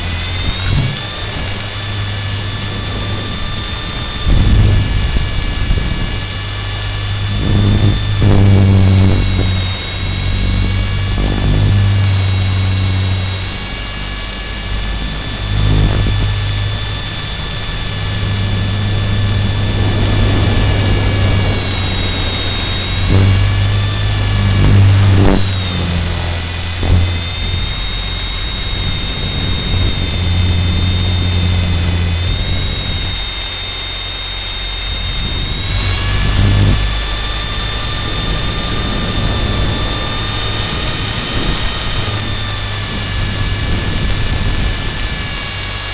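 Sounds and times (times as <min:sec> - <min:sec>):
high-pitched motor and gear whine: 0:00.0 - 0:45.9
low rotor drone: 0:00.0 - 0:45.9.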